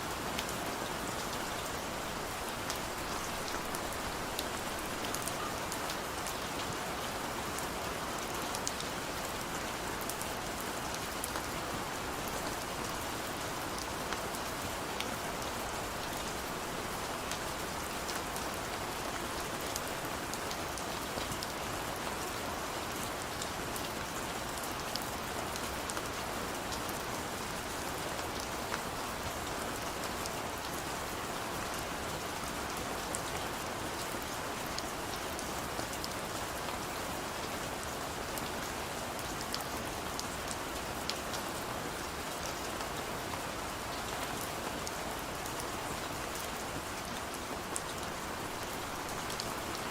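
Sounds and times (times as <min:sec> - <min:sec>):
heavy rain on hard surface: 0:00.0 - 0:49.9.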